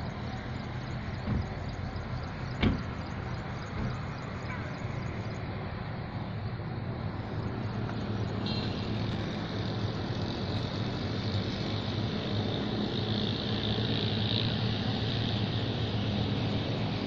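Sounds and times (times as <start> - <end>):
car engine hum: 0.0 - 17.0
road noise: 0.0 - 17.0.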